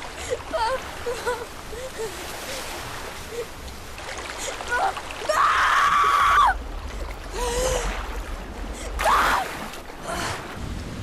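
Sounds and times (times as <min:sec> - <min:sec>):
rushing water splashing: 0:00.0 - 0:11.0.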